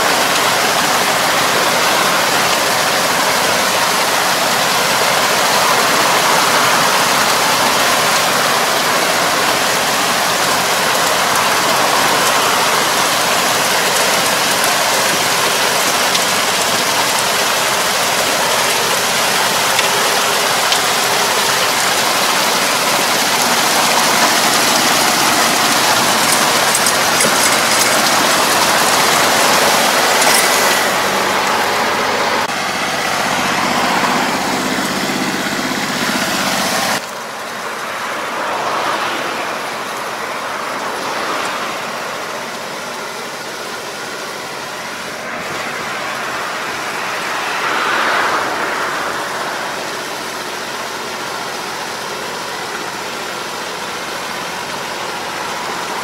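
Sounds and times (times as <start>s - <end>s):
tractor engine running: 0.0s - 56.0s
water and mud splashing: 0.0s - 56.0s.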